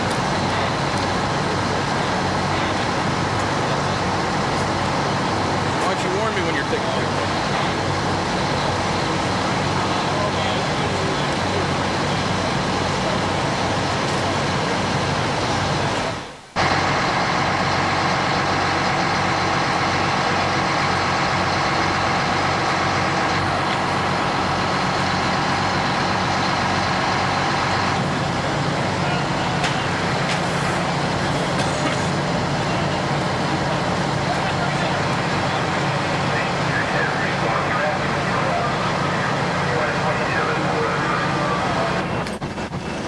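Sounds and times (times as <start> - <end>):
fire engine pump drone: 0.0 - 43.0.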